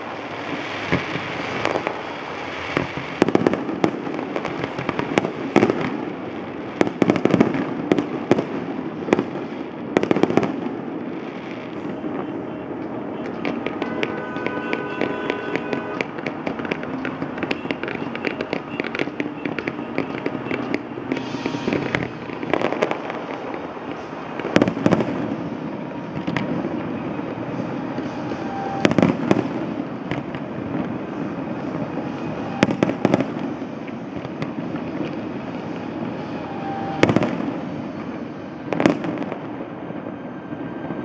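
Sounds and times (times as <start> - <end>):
fireworks crackling: 0.0 - 41.0
loud firework bangs: 0.4 - 39.5.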